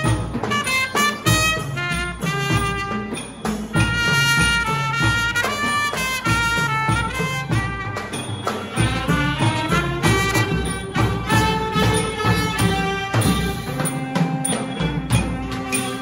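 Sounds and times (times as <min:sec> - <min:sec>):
brass band playing slow melody: 0:00.0 - 0:16.0
trumpet melody: 0:00.0 - 0:16.0.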